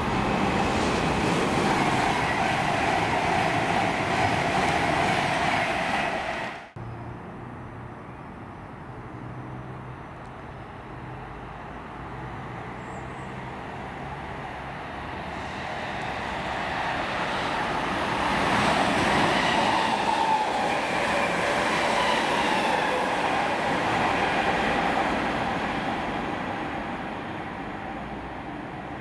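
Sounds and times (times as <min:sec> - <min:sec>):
train passing: 0:00.0 - 0:29.0.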